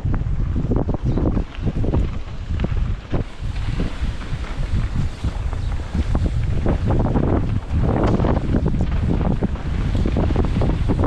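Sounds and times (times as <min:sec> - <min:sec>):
wind buffeting microphone: 0:00.0 - 0:11.0
bike knocks and rattles: 0:00.8 - 0:11.0.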